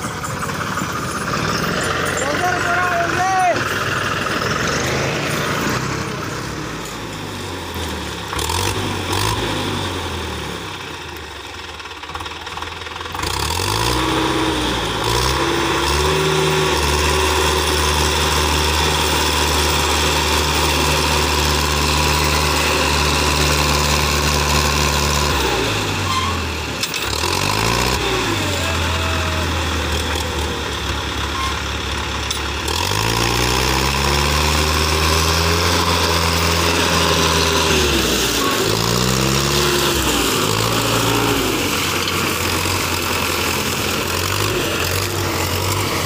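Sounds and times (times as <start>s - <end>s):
tractor diesel engine revving: 0.0s - 46.0s.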